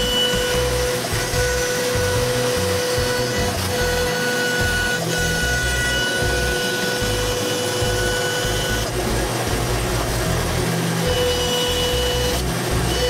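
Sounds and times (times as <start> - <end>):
bandsaw cutting wood: 0.0 - 13.0.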